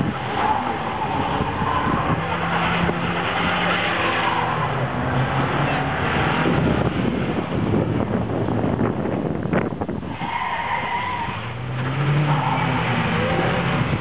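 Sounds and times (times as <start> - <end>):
car engine running under load: 0.0 - 10.2, 10.8 - 14.0.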